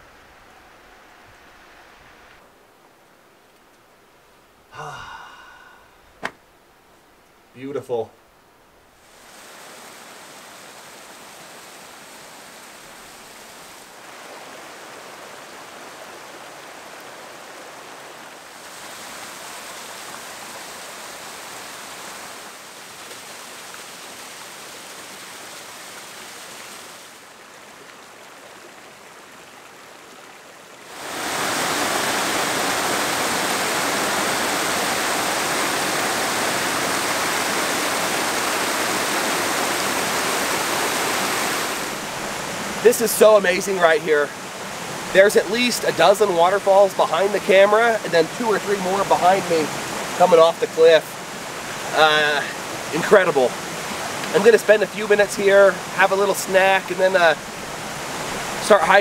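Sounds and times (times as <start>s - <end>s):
waterfall rushing over rocks: 9.0s - 28.9s, 30.1s - 59.0s.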